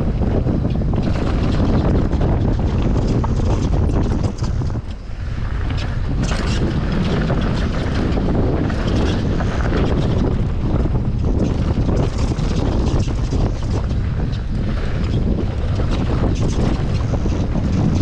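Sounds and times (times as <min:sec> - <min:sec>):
bike rattling and knocking: 0:00.0 - 0:18.0
tyres rumbling over dirt: 0:00.0 - 0:18.0
wind rushing over microphone: 0:00.0 - 0:18.0.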